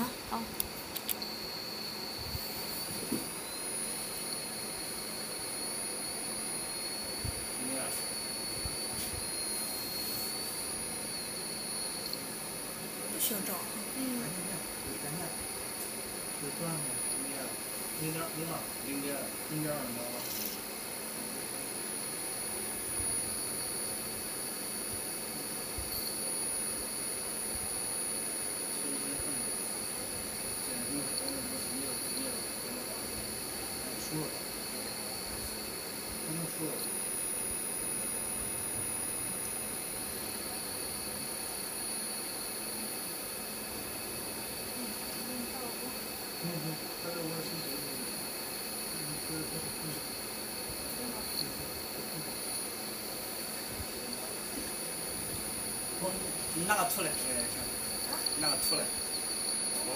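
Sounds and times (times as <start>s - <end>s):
high-pitched machine whine: 0.0s - 59.9s
machine hiss: 0.0s - 59.9s.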